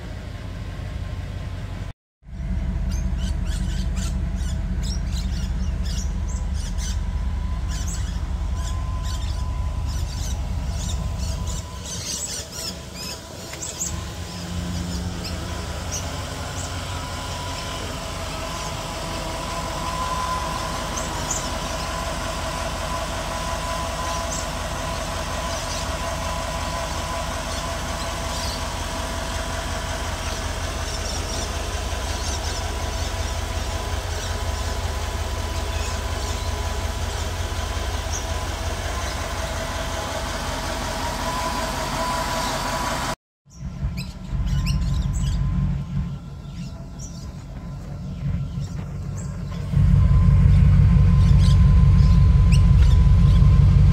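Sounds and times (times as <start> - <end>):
car engine idling: 0.0 - 53.9
exhaust idling: 0.0 - 53.9
faint steady whine: 5.7 - 43.2, 45.4 - 53.9.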